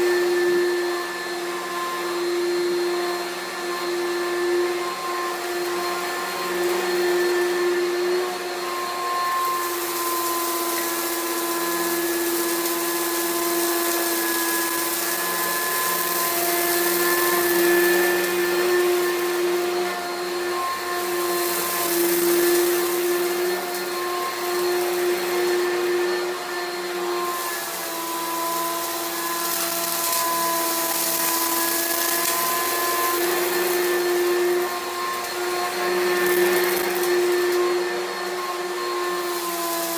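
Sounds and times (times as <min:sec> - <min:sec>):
vacuum cleaner running over carpet: 0:00.0 - 0:39.9.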